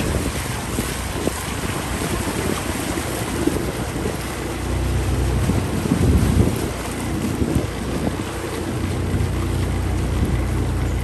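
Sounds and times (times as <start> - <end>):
low motor rumble: 0.0 - 11.0
wind buffeting microphone: 0.0 - 11.0.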